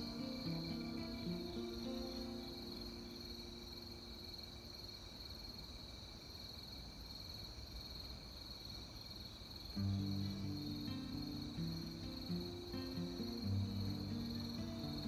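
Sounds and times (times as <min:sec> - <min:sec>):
higher pulsing insect trill: 0:00.0 - 0:15.0
insects chirping: 0:00.0 - 0:15.0.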